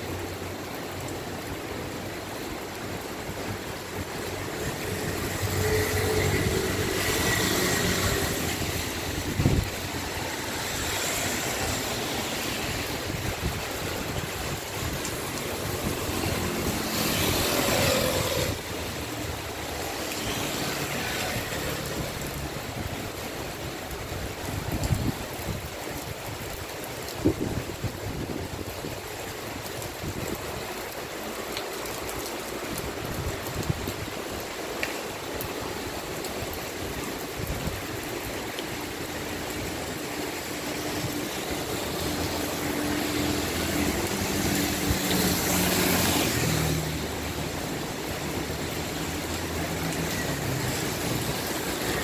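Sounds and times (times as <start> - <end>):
tyres swishing through water: 0.0 - 27.2, 28.6 - 52.0
heavy rain falling: 0.0 - 52.0.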